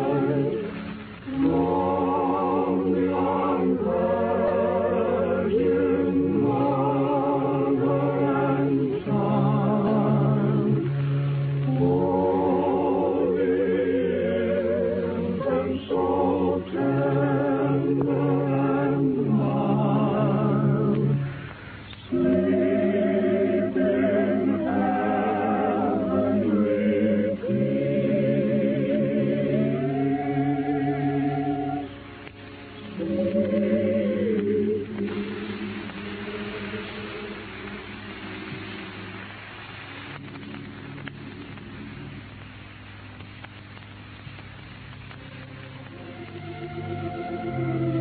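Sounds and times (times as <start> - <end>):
choir singing slowly: 0.0 - 42.9, 45.0 - 48.0.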